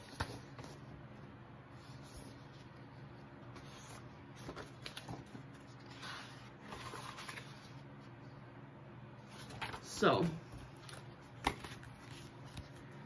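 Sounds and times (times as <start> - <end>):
book pages turning: 0.0 - 0.8, 1.8 - 8.1, 9.2 - 13.0
faint steady hum: 0.0 - 13.0.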